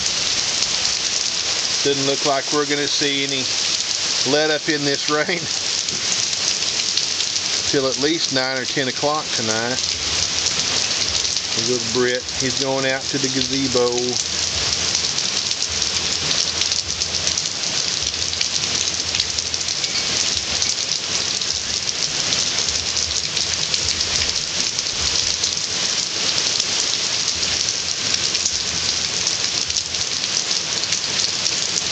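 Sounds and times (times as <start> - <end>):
heavy rain pattering: 0.0 - 31.9.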